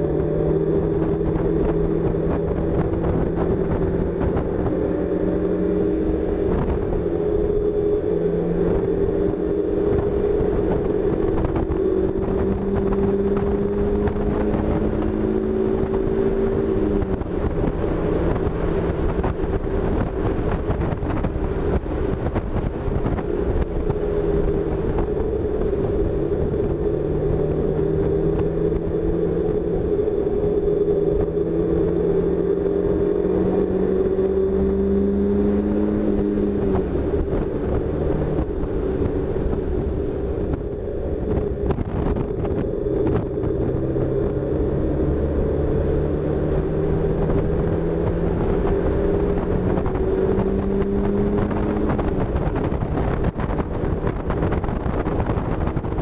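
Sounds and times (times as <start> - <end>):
car engine running hard: 0.0 - 56.0
wind noise: 0.0 - 56.0.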